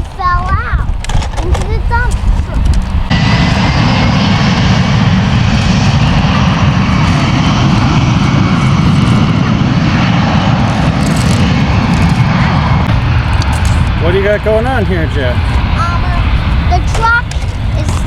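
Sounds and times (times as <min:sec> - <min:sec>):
airplane engines rumbling: 0:00.0 - 0:18.0.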